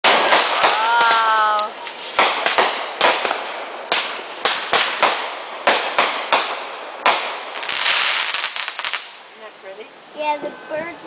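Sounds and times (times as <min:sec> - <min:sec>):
fireworks bangs: 0:00.0 - 0:09.3
fireworks crackling: 0:00.0 - 0:09.7.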